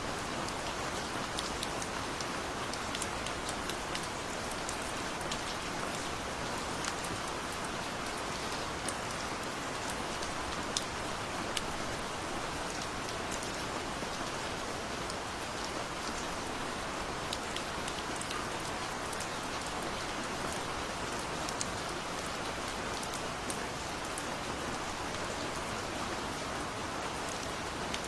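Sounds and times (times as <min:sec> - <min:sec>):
hiss of falling rain: 0:00.0 - 0:28.0
raindrops ticking on a surface: 0:00.1 - 0:28.0.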